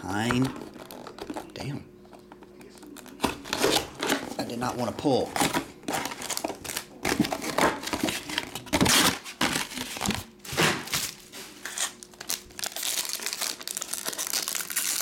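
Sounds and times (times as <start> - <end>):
foil wrappers crinkling: 0.1 - 1.8, 2.7 - 15.0.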